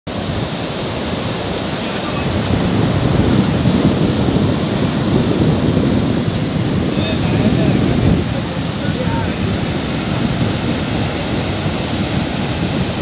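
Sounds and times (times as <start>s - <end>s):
surf breaking on shore: 0.1s - 13.0s
wind on microphone: 0.1s - 13.0s.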